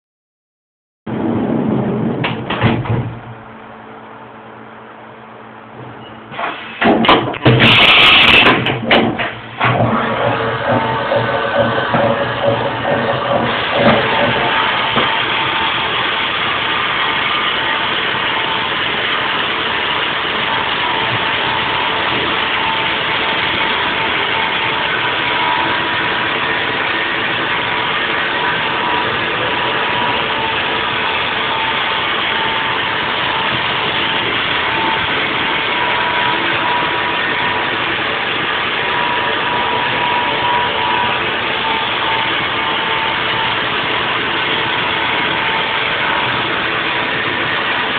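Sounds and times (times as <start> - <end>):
thin machine whine: 1.1 - 47.9
milling machine running: 6.0 - 47.9.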